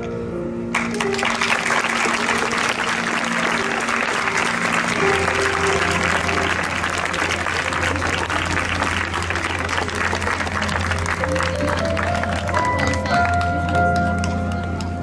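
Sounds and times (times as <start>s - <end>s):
soft background music: 0.0s - 15.0s
audience applause: 0.7s - 14.9s.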